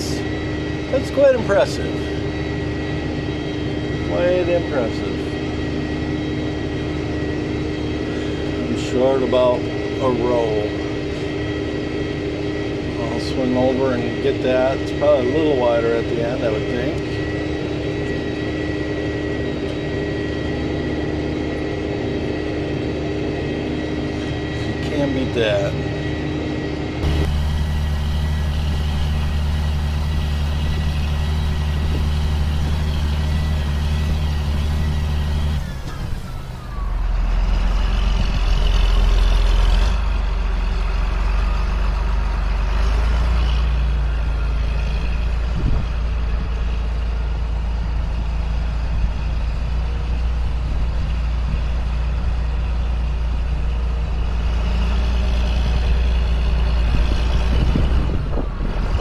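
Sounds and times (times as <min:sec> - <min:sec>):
sprayer engine humming: 0:00.0 - 0:59.0.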